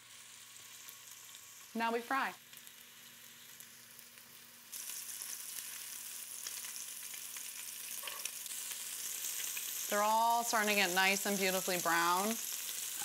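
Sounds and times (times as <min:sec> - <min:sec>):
meatballs sizzling in hot oil: 0:00.0 - 0:13.0.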